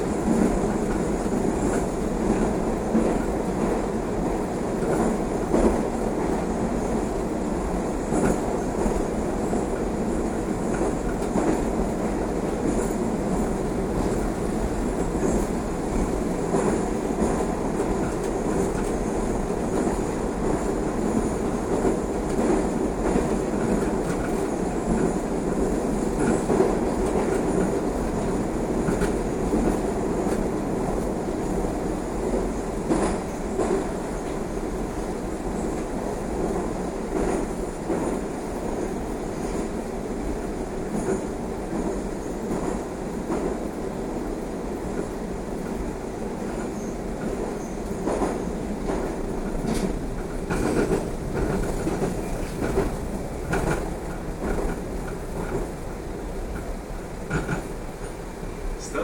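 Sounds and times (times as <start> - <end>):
train wheels rumbling on rail: 0.0 - 59.0
rail clicks: 7.6 - 59.0.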